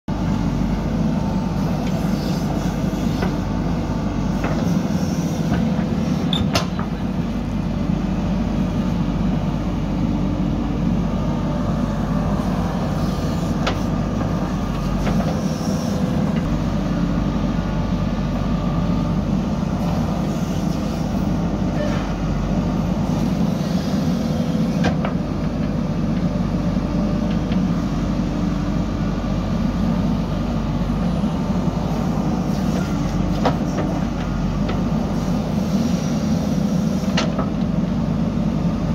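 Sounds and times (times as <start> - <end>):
diesel engine under load: 0.1 - 38.9.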